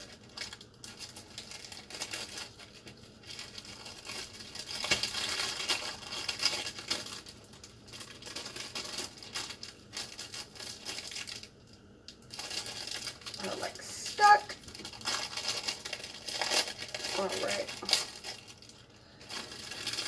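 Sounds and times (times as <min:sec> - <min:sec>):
packaging crinkling and rustling: 0:00.0 - 0:20.0.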